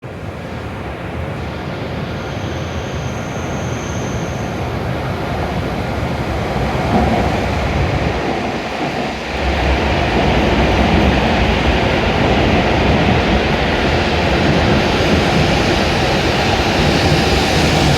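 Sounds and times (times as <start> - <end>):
train pulling in: 0.0 - 17.9.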